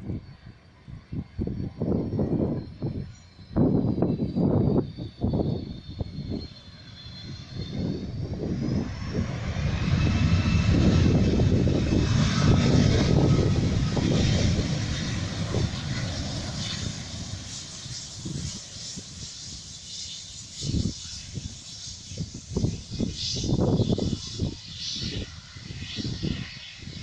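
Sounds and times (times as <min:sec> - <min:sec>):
jet airliner engine roar: 0:00.0 - 0:27.0
wind buffeting microphone: 0:00.0 - 0:27.0.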